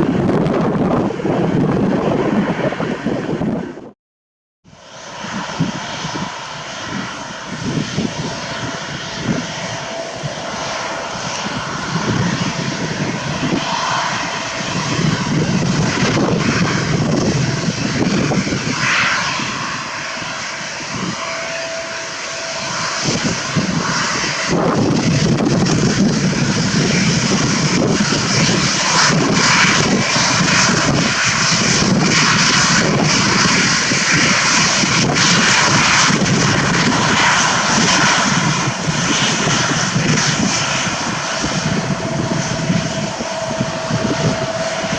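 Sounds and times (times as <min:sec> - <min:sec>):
jet airliner engines roaring: 0:00.0 - 0:04.0, 0:04.7 - 0:44.9.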